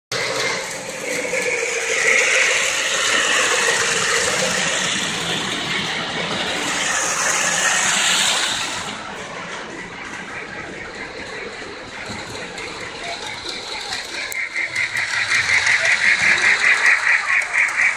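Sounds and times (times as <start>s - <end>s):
model train wheels clattering: 0.1s - 17.9s
motor hum: 0.1s - 17.9s.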